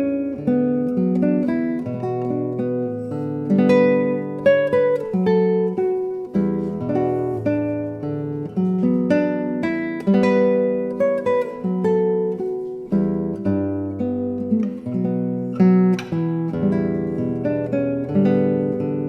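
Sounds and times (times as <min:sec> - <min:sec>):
classical guitar music: 0:00.0 - 0:19.0.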